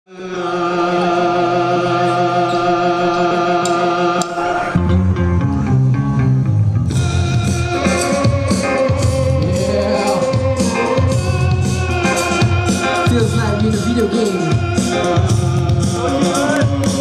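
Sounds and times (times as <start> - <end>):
heavy bass line and beat: 1.1 - 17.0.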